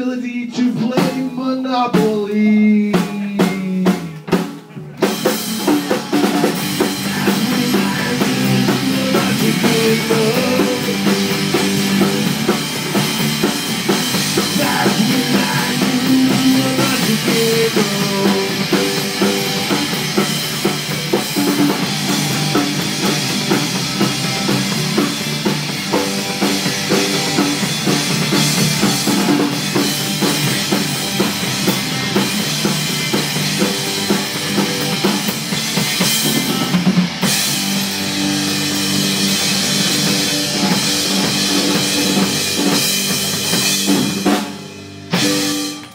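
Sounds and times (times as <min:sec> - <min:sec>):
drum kit: 0:00.0 - 0:45.9
electric guitars: 0:01.9 - 0:45.9.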